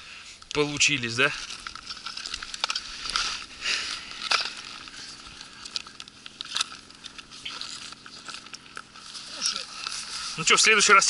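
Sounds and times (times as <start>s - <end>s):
ice fragments clinking: 0.6s - 11.0s.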